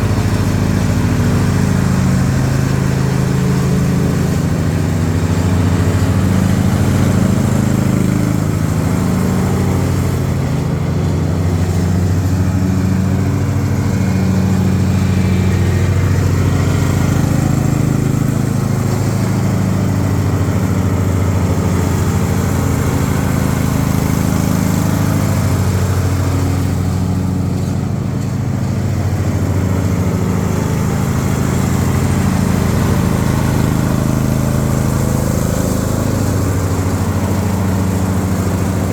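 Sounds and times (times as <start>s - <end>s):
lawnmower engine running: 0.0s - 38.9s.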